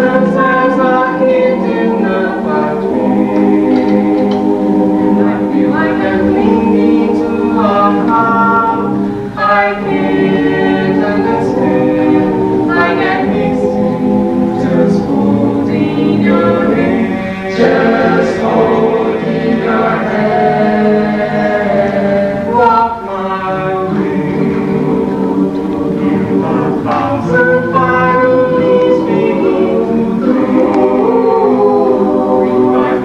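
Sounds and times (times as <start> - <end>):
choir singing a cappella: 0.0 - 33.0.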